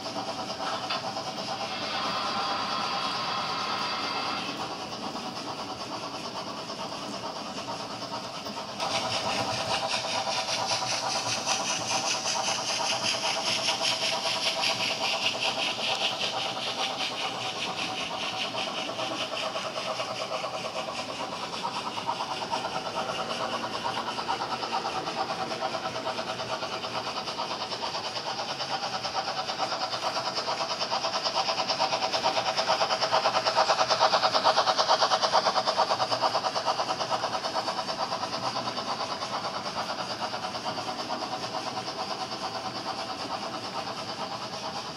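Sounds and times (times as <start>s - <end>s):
model train wheels clattering: 0.0s - 44.9s.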